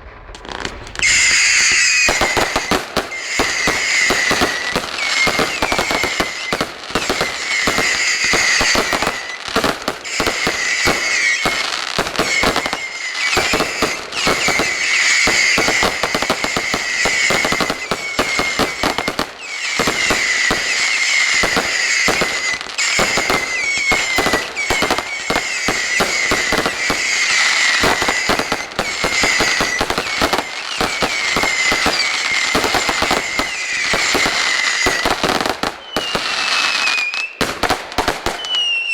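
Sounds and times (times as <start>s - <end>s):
fireworks bangs and crackling: 0.0s - 38.9s
high wavering whistles: 0.4s - 37.4s, 38.4s - 38.9s.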